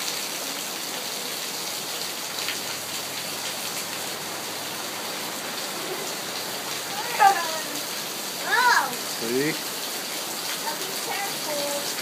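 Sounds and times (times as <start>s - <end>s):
heavy rain pattering: 0.0s - 12.0s.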